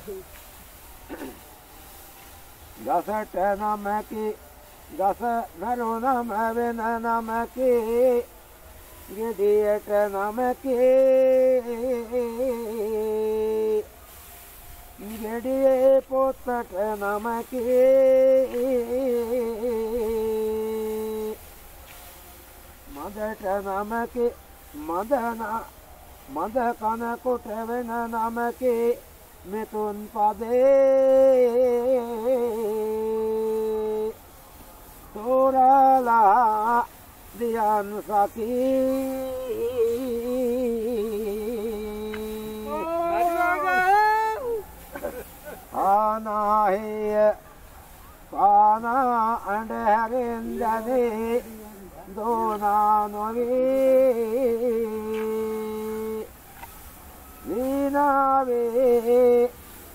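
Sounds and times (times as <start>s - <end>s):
man chanting: 0.0s - 0.4s, 2.8s - 14.2s, 14.9s - 21.5s, 22.8s - 34.2s, 35.1s - 56.7s, 57.4s - 59.6s
person singing slow verse: 0.0s - 59.9s.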